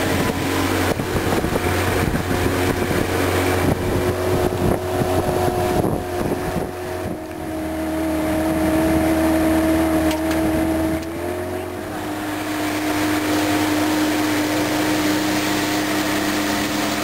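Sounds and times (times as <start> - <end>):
motorboat engine running: 0.0 - 17.0
wind buffeting microphone: 0.0 - 17.0.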